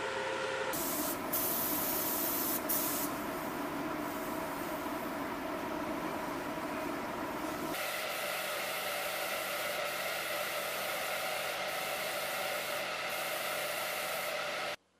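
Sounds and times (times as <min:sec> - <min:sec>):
ventilation fans rushing air: 0:00.7 - 0:14.8.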